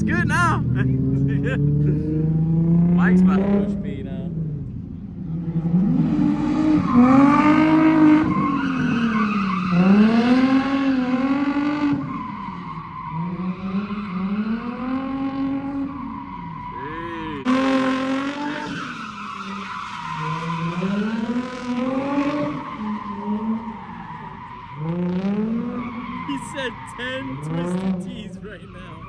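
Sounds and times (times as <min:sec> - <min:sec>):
car engine revving: 0:00.0 - 0:29.0
tyres skidding and squealing: 0:05.5 - 0:29.0.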